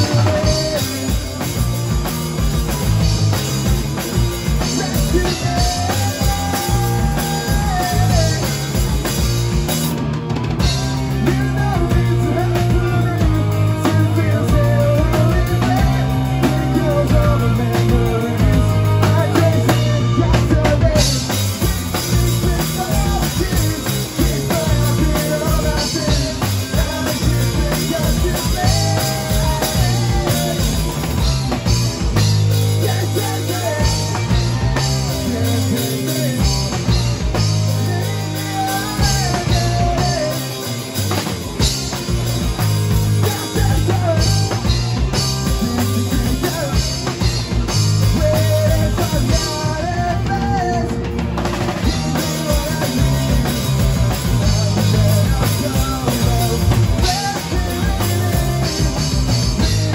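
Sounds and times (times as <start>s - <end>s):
person singing: 0.0s - 1.7s, 4.5s - 9.2s, 10.6s - 31.7s, 32.5s - 41.3s, 42.6s - 59.9s
bass: 0.0s - 59.9s
distorted electric guitars: 0.0s - 59.9s
drum kit: 0.0s - 59.9s.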